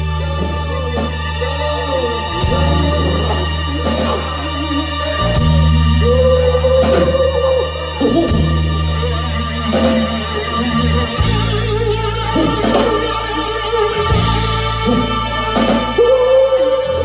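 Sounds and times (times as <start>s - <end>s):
drums: 0.0s - 17.0s
electric guitar bending note: 0.0s - 17.0s
keyboards: 0.0s - 17.0s
low bass notes: 0.0s - 17.0s.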